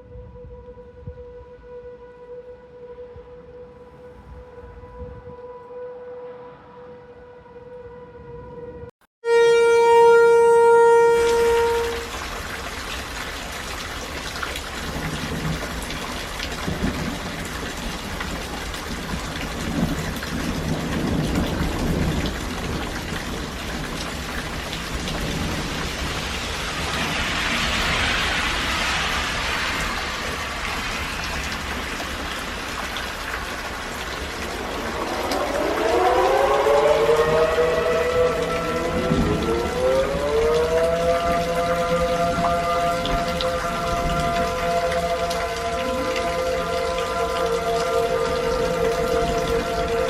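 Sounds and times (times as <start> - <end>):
warning siren steady tone: 0.0 - 12.4, 14.9 - 50.0
steady rain: 9.3 - 50.0
thunder rumbles: 9.4 - 50.0.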